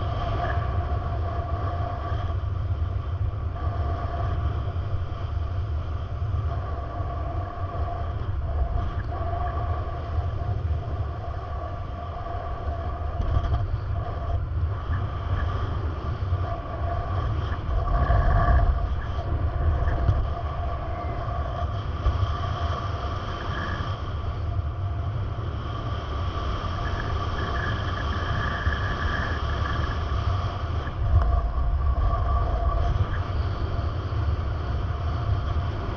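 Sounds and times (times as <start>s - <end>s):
faint whining tones: 0.0s - 35.9s
vehicle rumble: 0.0s - 35.9s.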